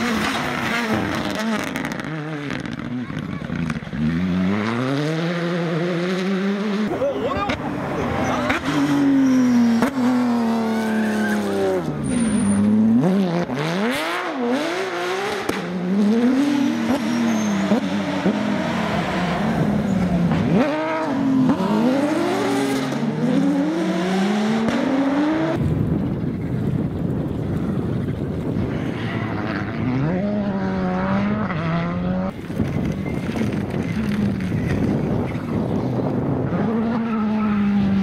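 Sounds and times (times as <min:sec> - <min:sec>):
rally car engine revving: 0:00.0 - 0:25.7, 0:28.7 - 0:38.0.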